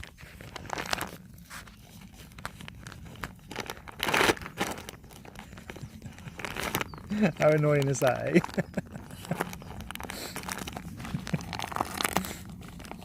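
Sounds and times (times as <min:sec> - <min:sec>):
plastic packaging crinkling and tearing: 0:00.0 - 0:13.0.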